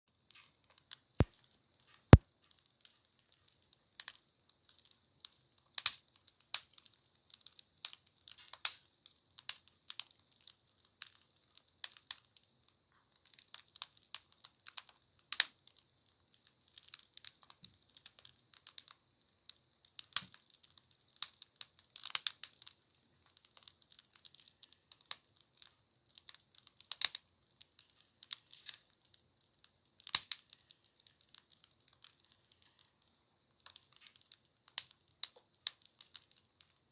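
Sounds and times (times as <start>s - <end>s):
campfire crackling and popping: 0.1s - 36.9s
soft hiss of burning: 0.1s - 36.9s.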